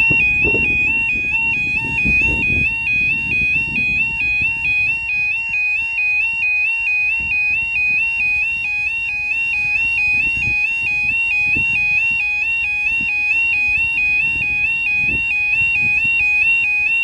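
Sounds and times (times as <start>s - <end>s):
two-tone level crossing alarm: 0.0s - 17.0s.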